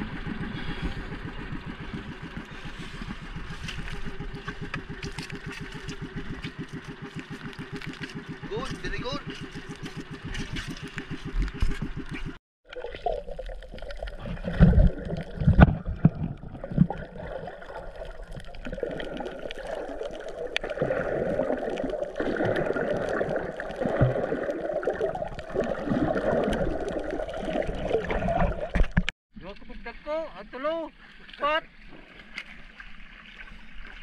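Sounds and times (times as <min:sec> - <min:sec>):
muffled underwater gurgling: 0:00.0 - 0:29.1.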